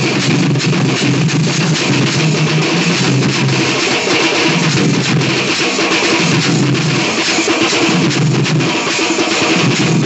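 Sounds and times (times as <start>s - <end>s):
drummers drumming: 0.0s - 10.0s.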